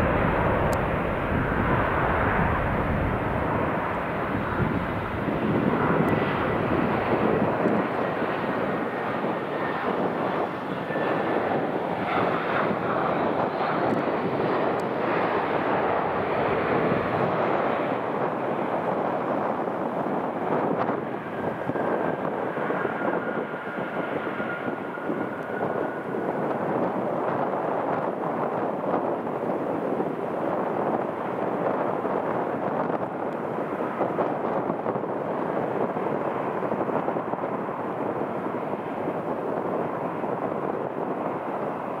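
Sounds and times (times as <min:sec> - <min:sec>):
jet engines at takeoff power: 0:00.0 - 0:42.0.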